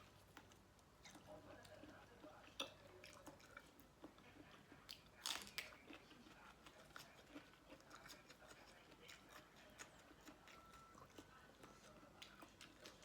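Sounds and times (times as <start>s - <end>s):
chewing and crunching: 0.0s - 13.0s.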